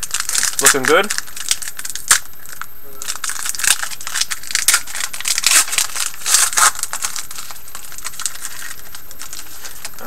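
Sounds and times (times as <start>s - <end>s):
wrapper crinkling and tearing: 0.0s - 10.0s.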